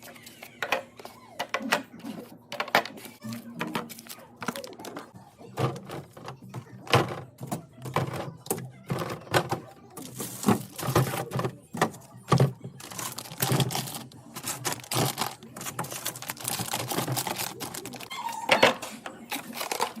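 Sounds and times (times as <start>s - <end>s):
jars and bottles clattering: 0.0s - 20.0s.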